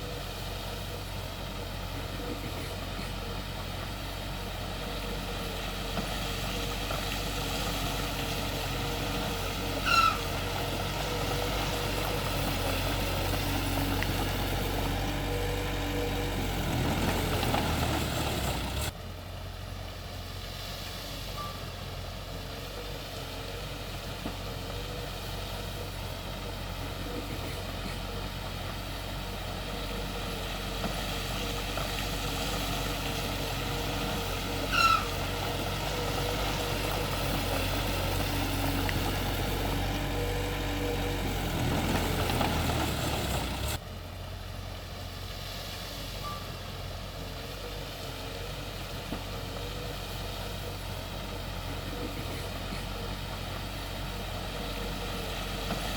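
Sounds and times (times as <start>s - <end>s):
heavy machinery diesel engine running: 0.0s - 55.9s.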